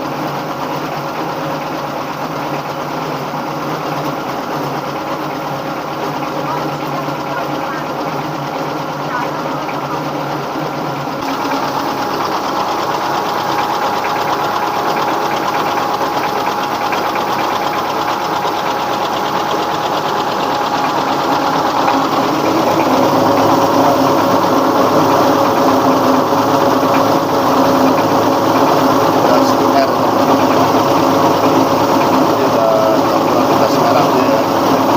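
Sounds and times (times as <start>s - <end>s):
diesel engine running: 0.0s - 34.9s
rice mill machinery clattering: 0.0s - 34.9s.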